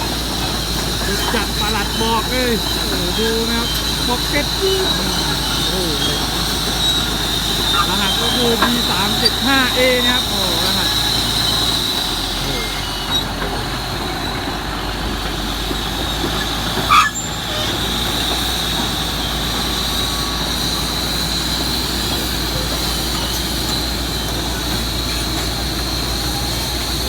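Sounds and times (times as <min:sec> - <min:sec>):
loud squeak: 0:00.0 - 0:14.5, 0:15.9 - 0:25.2
bulldozer diesel engine running: 0:00.0 - 0:27.0
steel tracks clattering: 0:00.0 - 0:27.0.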